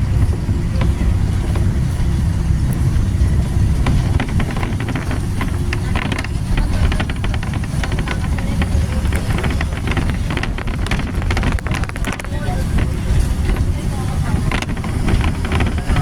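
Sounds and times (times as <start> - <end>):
rapid rattling clicks: 0.0 - 16.0
vehicle low rumble: 0.0 - 16.0.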